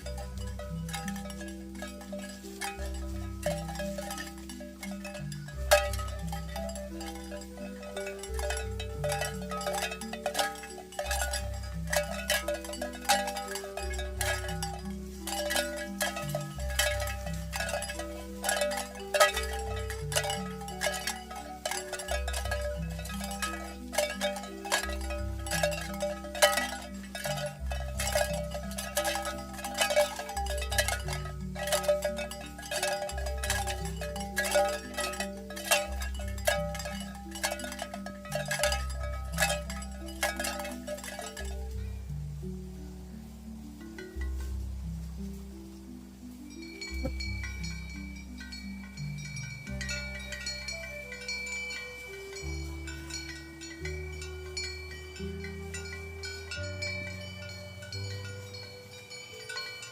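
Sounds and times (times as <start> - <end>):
chime-like bell tones: 0.0 - 42.2, 46.4 - 59.9.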